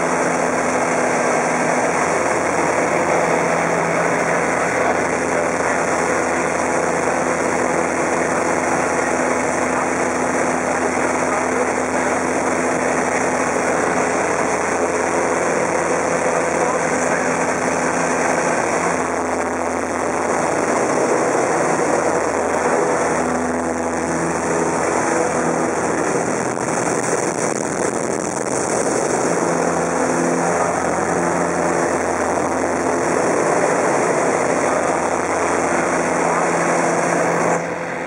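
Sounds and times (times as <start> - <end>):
plane engine and propeller drone: 0.0 - 38.0.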